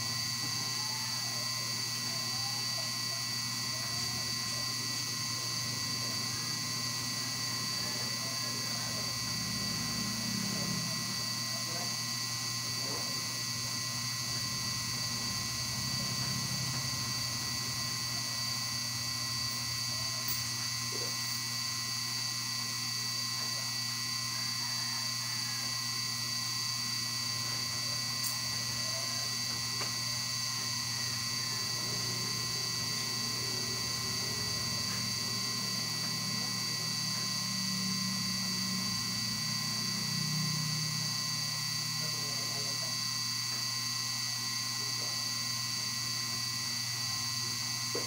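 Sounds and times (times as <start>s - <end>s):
electrical hum: 0.0s - 48.0s
high-pitched whine: 0.0s - 48.0s.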